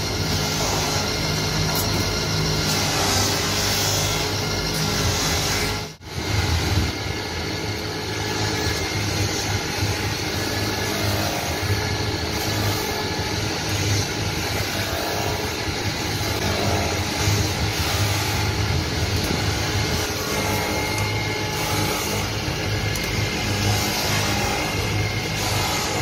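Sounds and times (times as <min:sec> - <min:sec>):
buffing wheel motor humming: 0:00.0 - 0:26.0.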